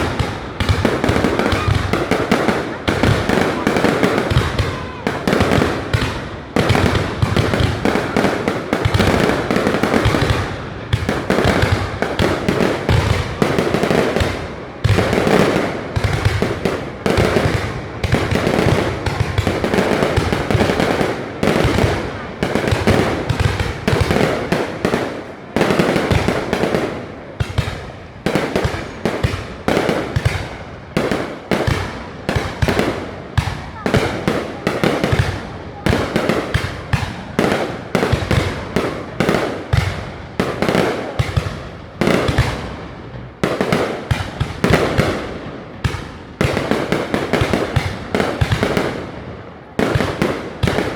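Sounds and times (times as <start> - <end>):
fireworks bursting: 0.0 - 50.9
fireworks crackling: 0.0 - 50.9.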